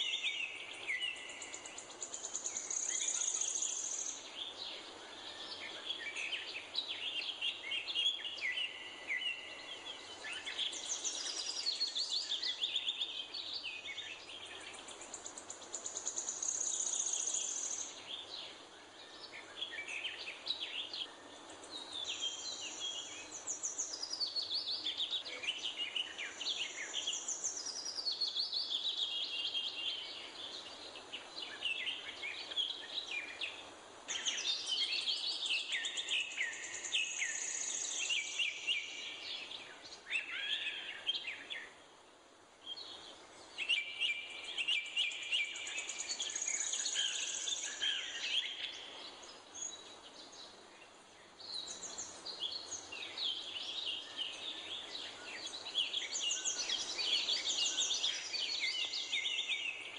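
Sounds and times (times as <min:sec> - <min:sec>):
faint background hiss: 0:00.0 - 0:59.9
songbirds chirping: 0:00.0 - 0:59.9.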